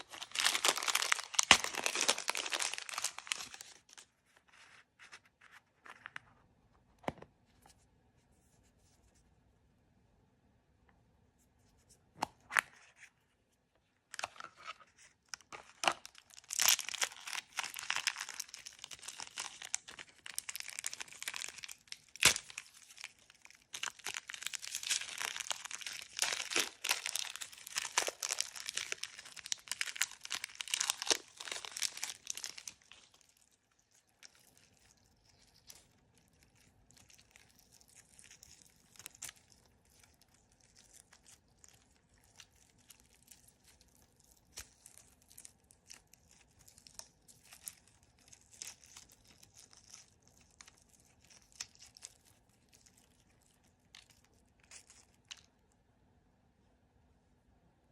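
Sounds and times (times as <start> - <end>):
packaging crinkling and tearing: 0.0 - 6.1, 14.1 - 55.6.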